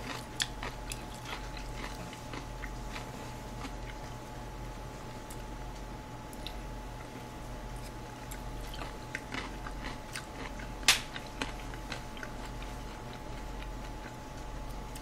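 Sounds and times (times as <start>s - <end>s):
close chewing: 0.0s - 4.2s, 6.3s - 15.0s
steady low hum: 0.0s - 15.0s.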